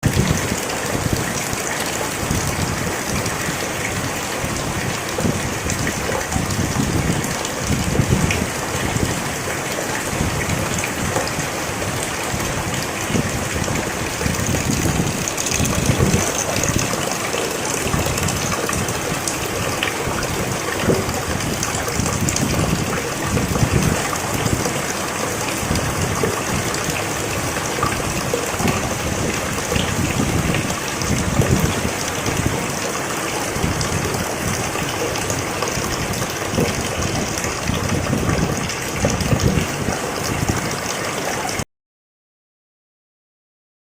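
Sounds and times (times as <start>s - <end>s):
rain on a roof: 0.0s - 41.6s.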